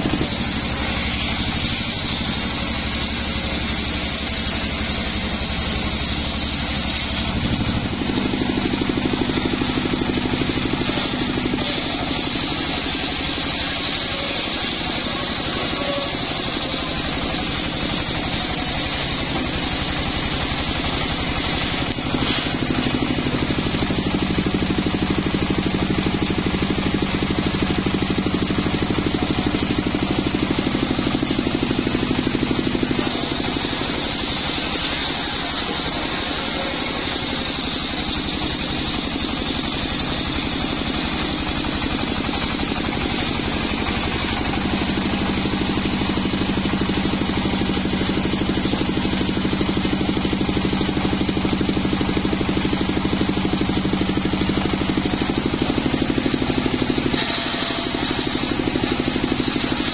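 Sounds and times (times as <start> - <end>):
circular saw ripping wood: 0.0 - 48.6, 56.3 - 59.9.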